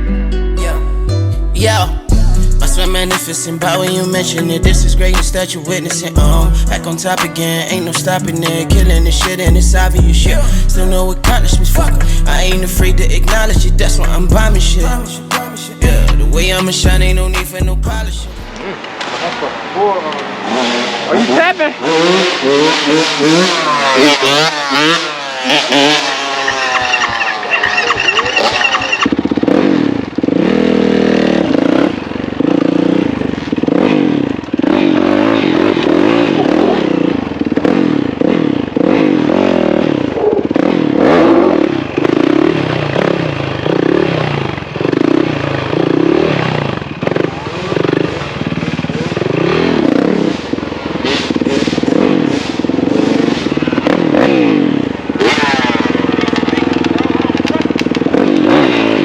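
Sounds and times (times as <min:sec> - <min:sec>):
motorcycle engine revving: 0:02.1 - 0:59.0.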